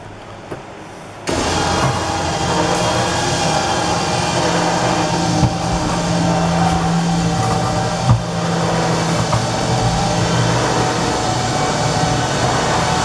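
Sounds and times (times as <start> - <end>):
electric hoist motor running: 1.3 - 13.0.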